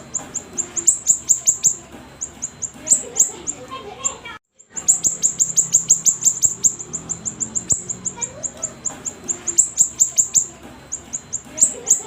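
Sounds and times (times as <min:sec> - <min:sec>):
bird singing chirps: 0:00.0 - 0:12.0.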